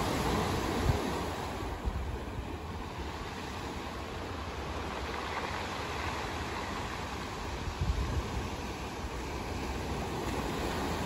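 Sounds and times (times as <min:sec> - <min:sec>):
surf washing over cobbles: 0:00.0 - 0:11.0.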